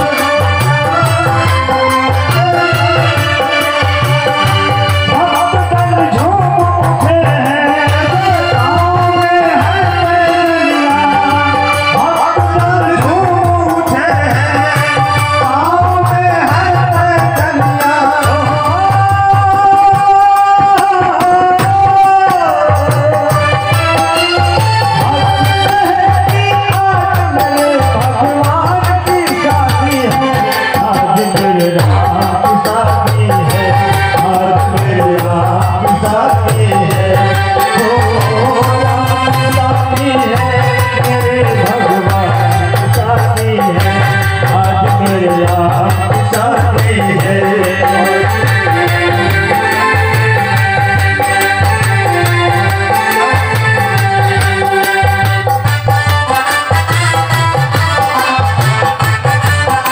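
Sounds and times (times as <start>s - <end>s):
devotional song over loudspeakers: 0.0s - 59.9s
man singing: 0.0s - 59.9s
steady drum beat: 0.0s - 59.9s.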